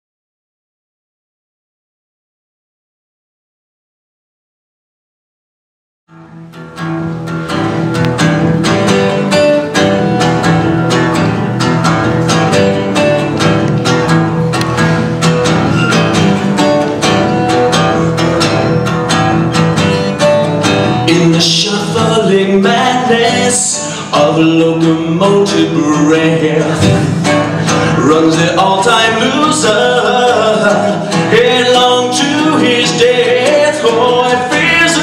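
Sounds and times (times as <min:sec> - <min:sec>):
acoustic guitar strumming: 0:06.1 - 0:35.0.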